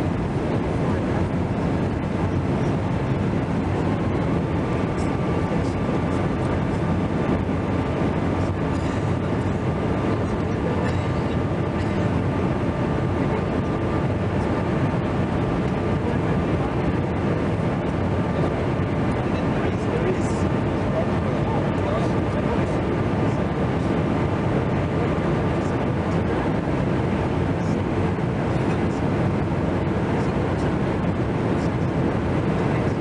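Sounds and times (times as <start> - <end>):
faint steady whine: 0.0 - 33.0
jet engine cabin noise: 0.0 - 33.0.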